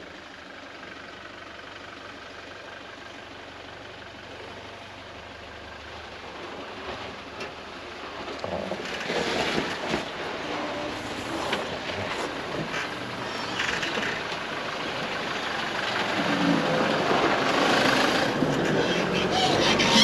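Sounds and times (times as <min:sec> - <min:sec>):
truck engine at low revs: 0:00.0 - 0:20.0.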